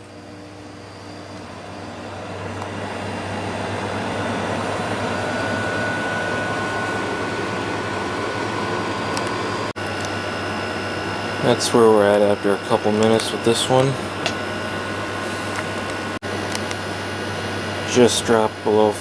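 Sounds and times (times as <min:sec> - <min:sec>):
air conditioner fan and hum: 0:00.0 - 0:19.0.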